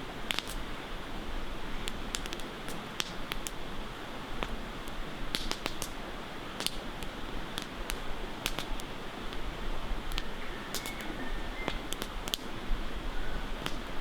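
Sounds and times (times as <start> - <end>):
campfire crackling and popping: 0.0 - 14.0
running river water: 0.0 - 14.0.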